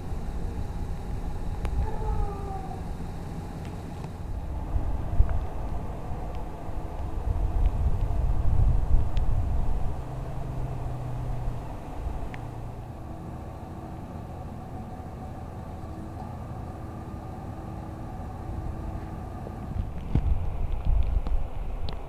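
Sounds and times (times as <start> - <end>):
car engine idling: 0.0 - 22.0
faint steady hum: 0.0 - 22.0.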